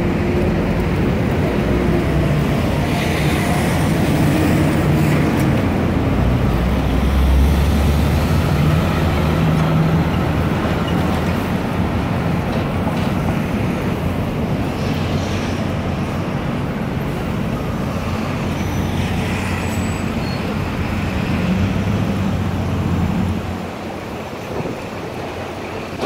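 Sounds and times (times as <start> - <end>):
vehicle engines passing close: 0.0 - 26.0.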